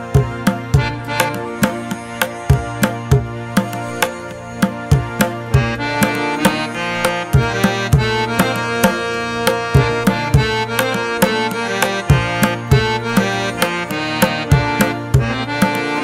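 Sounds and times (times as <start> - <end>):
hand drum strikes: 0.0 - 16.0
instrumental music: 0.0 - 16.0.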